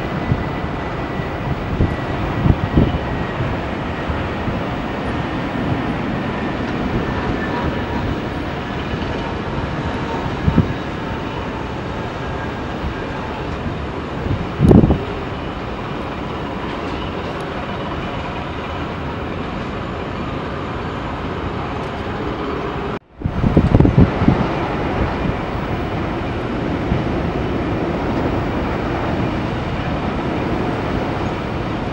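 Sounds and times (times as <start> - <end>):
jet engine roar: 0.0 - 31.9.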